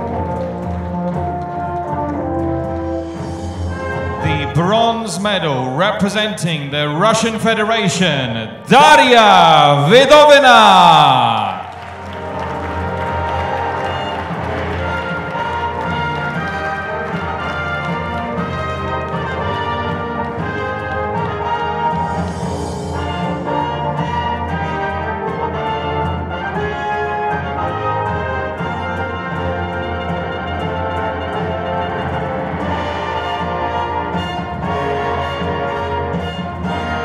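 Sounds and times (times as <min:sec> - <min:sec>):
orchestral music with brass: 0:00.0 - 0:37.0.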